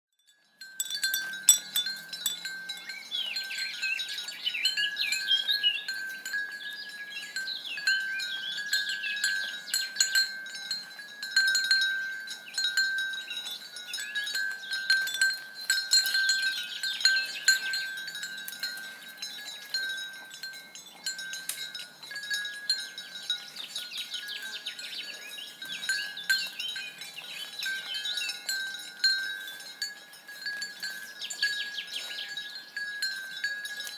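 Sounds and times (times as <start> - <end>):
neck bell ringing: 0.2 - 33.9.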